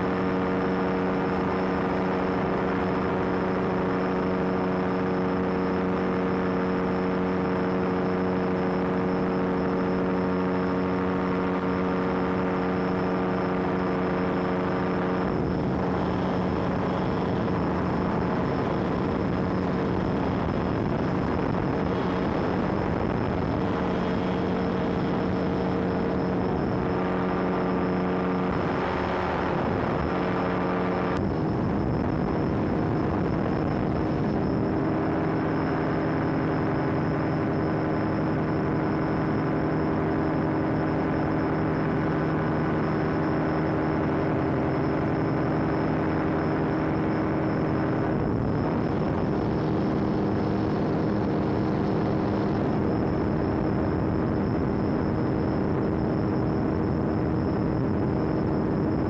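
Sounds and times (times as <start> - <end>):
engine and propeller droning: 0.0 - 59.0.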